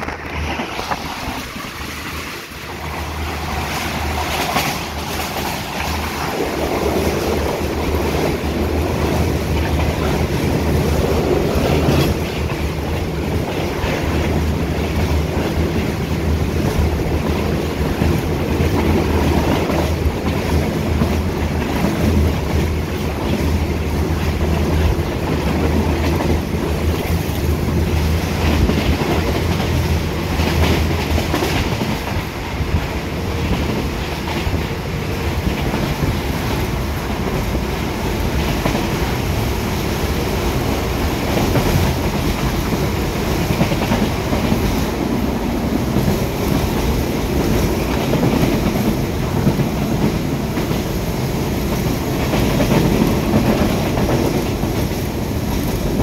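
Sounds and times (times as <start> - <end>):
rushing air: 0.0 - 56.0
train wheels rumbling on rails: 0.0 - 56.0
wheels clacking over rail joints: 0.0 - 56.0.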